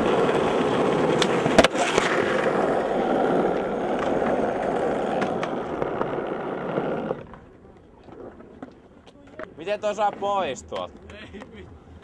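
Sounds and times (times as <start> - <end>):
skateboard clacks: 0.0 - 12.0
skateboard wheels rolling on asphalt: 0.0 - 12.0.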